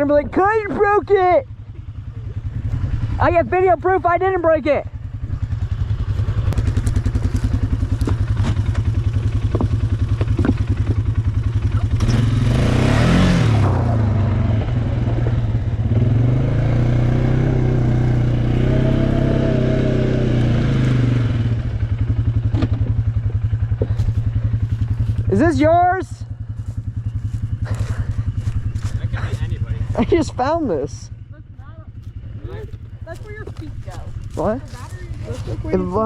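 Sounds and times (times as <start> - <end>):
atv engine idling and revving: 0.0 - 36.0.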